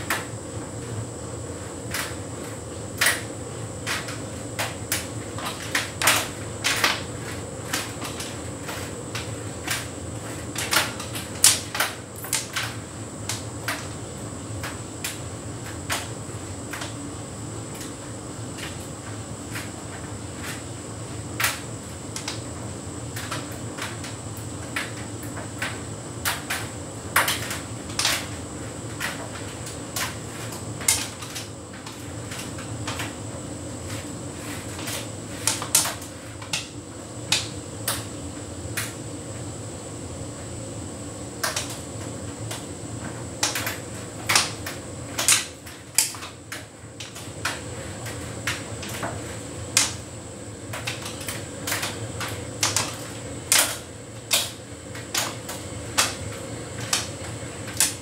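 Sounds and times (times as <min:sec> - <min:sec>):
tumble dryer hum: 0:00.0 - 0:58.0.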